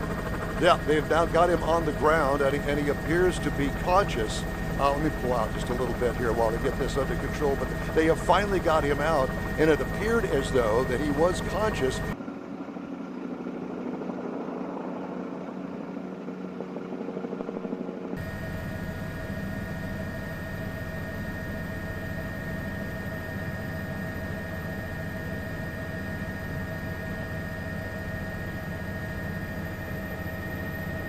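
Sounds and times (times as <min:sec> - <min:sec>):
helicopter rotor rumble: 0:00.0 - 0:31.0
helicopter turbine whine: 0:00.0 - 0:31.0.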